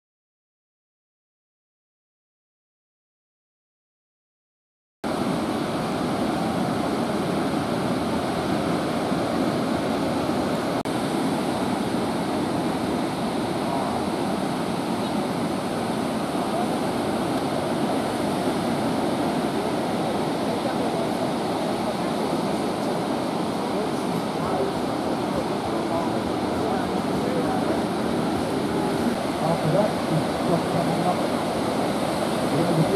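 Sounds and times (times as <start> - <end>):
ocean surf breaking: 5.1 - 32.9.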